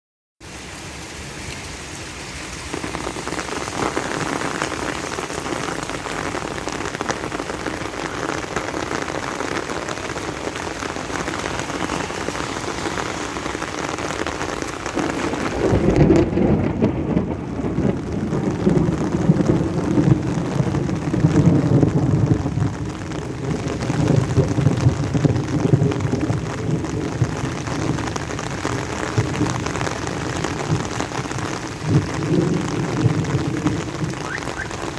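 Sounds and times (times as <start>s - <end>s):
heavy rain falling: 0.4s - 34.9s.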